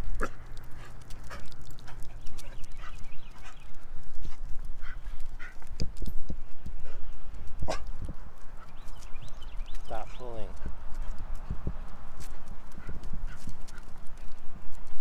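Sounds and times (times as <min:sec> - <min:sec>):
footsteps on asphalt: 0:00.0 - 0:15.0.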